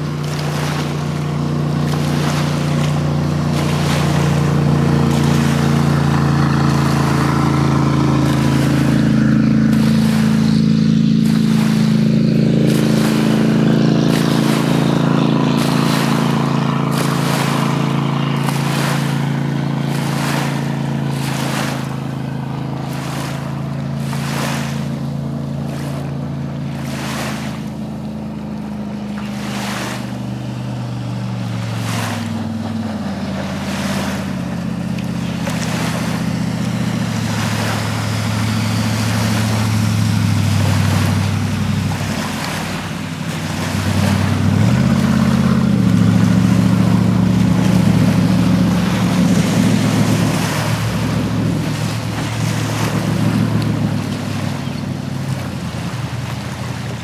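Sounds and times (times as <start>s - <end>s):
boat engine running at speed: 0.0s - 57.0s
water rushing: 0.0s - 57.0s.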